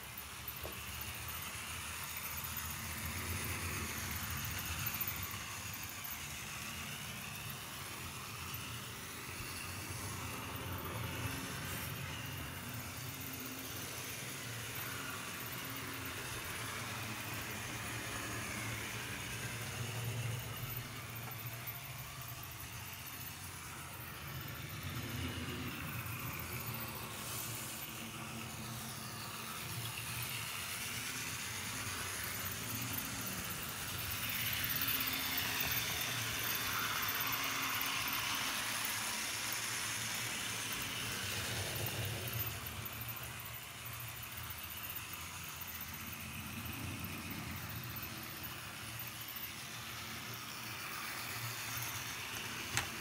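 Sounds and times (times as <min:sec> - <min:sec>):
model train motor whir: 0:00.0 - 0:53.0.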